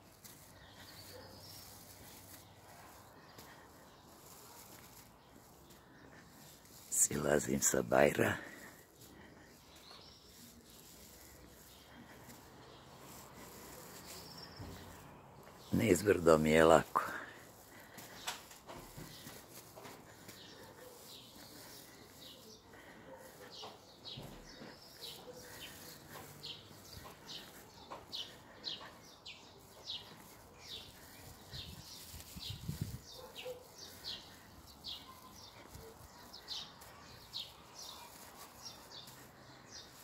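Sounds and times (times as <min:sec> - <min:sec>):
small songbird chirping: 0:00.0 - 0:16.6, 0:17.7 - 0:40.0.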